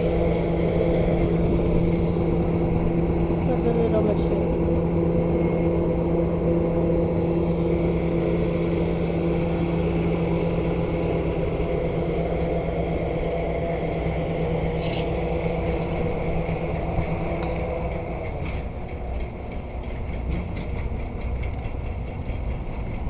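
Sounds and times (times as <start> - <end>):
construction machine engine humming: 0.0 - 23.0.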